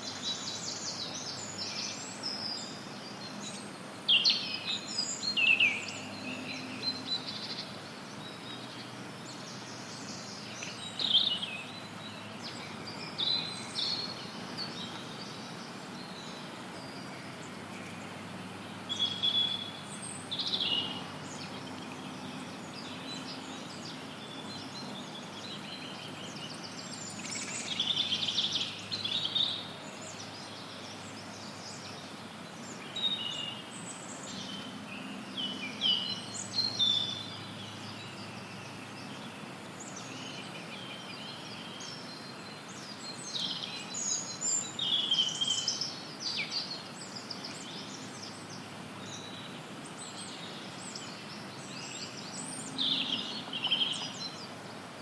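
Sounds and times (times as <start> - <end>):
songbirds singing and chirping: 0.0 - 55.0
white noise hiss: 0.0 - 55.0.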